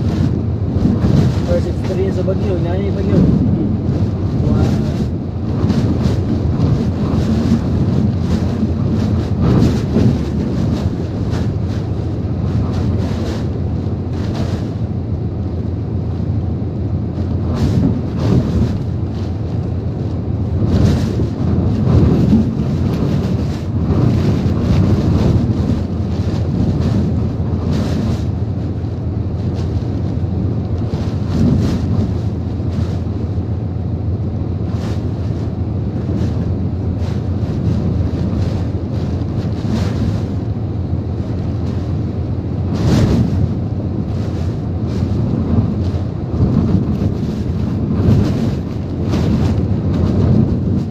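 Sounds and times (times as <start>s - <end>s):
strong wind gusts: 0.0s - 50.9s
wind buffeting microphone: 0.0s - 50.9s.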